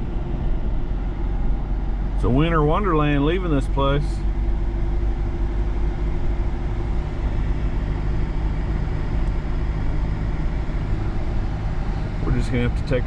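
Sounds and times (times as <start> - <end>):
road rumble: 0.0 - 13.0
truck engine hum: 0.0 - 13.0.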